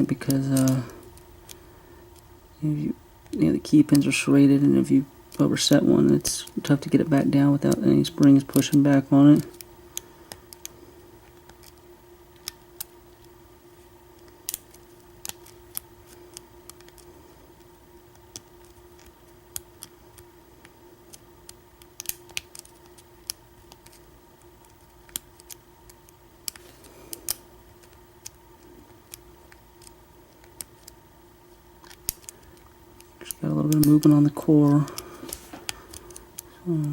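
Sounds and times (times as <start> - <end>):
faint hum: 0.0 - 36.9.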